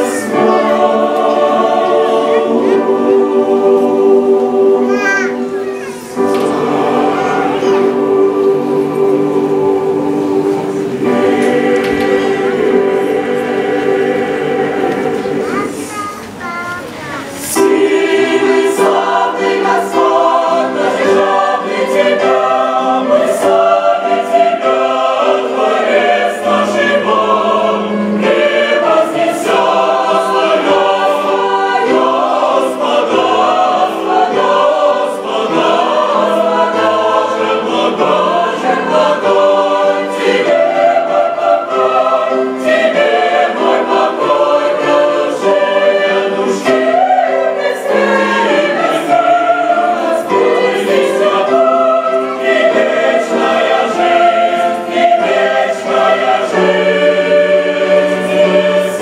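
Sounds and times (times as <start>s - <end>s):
mixed choir singing a hymn: 0.0s - 16.4s, 17.2s - 59.0s.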